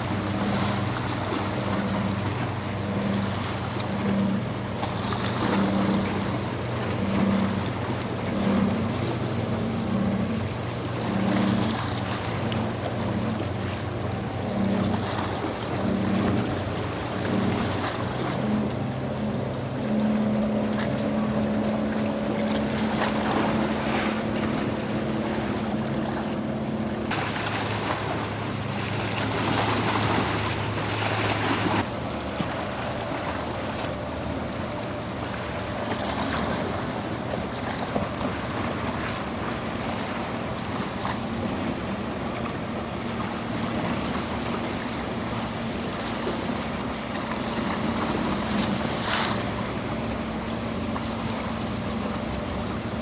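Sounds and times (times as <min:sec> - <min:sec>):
motorboat engines humming: 0:00.0 - 0:53.0
waves washing: 0:00.0 - 0:53.0.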